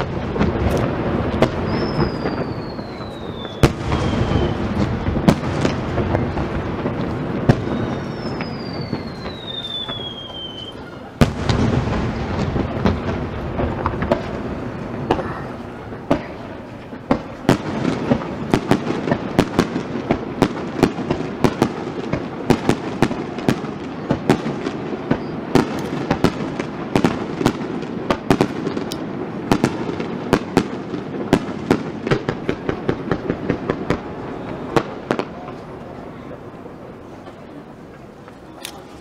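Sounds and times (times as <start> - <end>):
fireworks bursting: 0.0 - 39.0.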